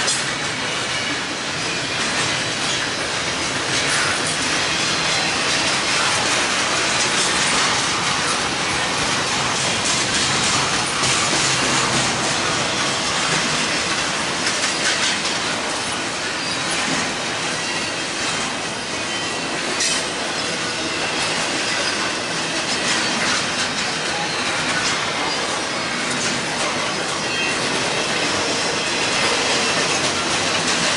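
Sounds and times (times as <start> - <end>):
sharp clicks from train wheels: 0.0 - 30.9
train wheels on rails: 0.0 - 30.9.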